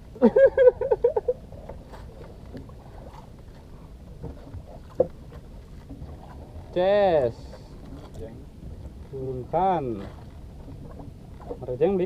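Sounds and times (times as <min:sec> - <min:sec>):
fishing boat background noise: 0:00.0 - 0:12.0.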